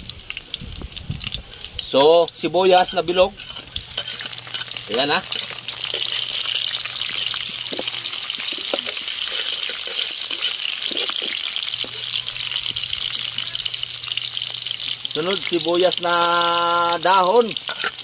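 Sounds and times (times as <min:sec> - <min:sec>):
garlic and onion sizzling in oil: 0:00.0 - 0:18.0.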